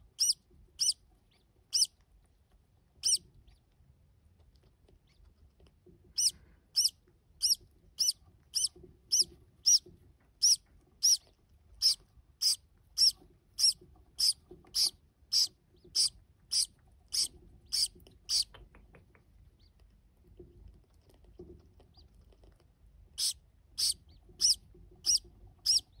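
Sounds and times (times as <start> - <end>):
chick peeping: 0.0 - 2.0, 3.0 - 3.7, 6.0 - 19.9, 20.6 - 26.0.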